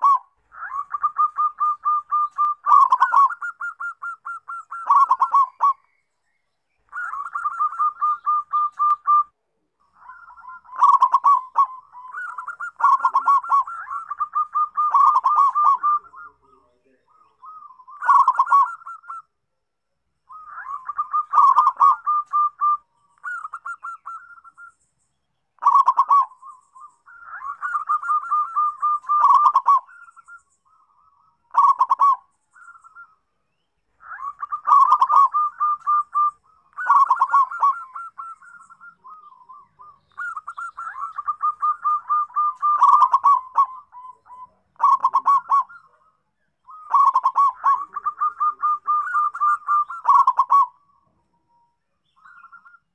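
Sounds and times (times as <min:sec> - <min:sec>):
dove cooing: 0:00.0 - 0:05.8, 0:06.8 - 0:19.4, 0:20.3 - 0:24.7, 0:25.6 - 0:33.2, 0:33.9 - 0:51.1.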